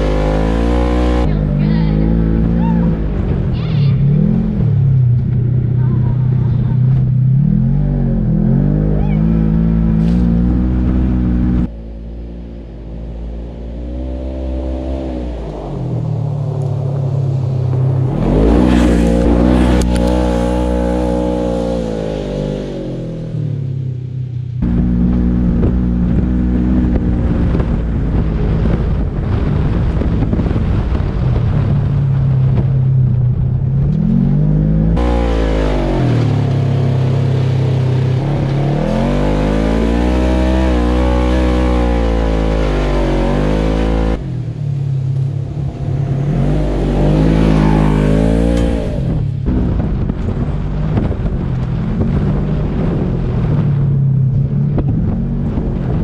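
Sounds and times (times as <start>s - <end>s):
engine revving and accelerating: 0.0s - 23.9s, 24.6s - 56.0s.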